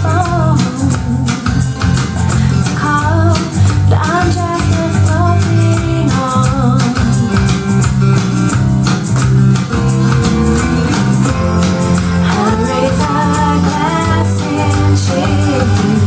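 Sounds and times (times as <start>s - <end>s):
pop song over speakers: 0.0s - 16.0s
tambourine beat: 0.6s - 16.0s.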